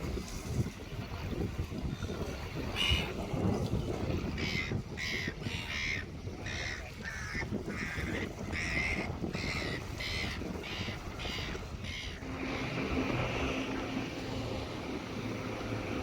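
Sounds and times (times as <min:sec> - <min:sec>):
low rumble of wind: 0:00.0 - 0:16.0.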